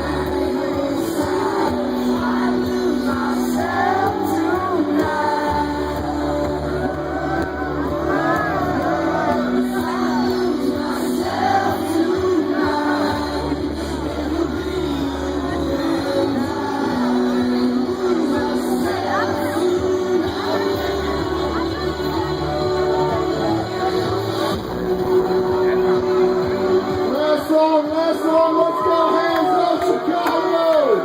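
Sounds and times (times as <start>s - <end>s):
bass notes: 0.0s - 27.2s
person singing: 0.0s - 27.2s.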